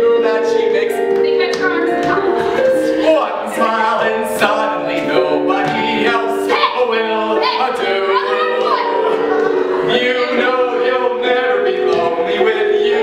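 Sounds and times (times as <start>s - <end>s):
digital piano accompaniment: 0.0s - 13.0s
man singing: 2.6s - 13.0s.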